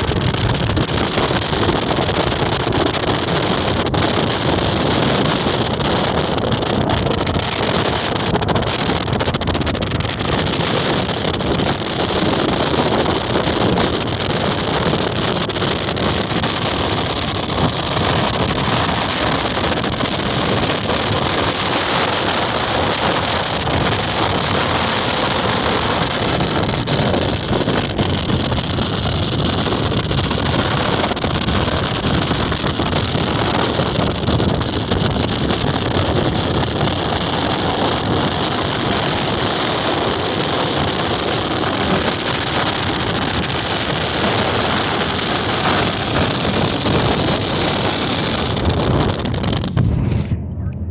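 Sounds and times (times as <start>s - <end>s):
high wind on microphone: 0.0s - 50.9s.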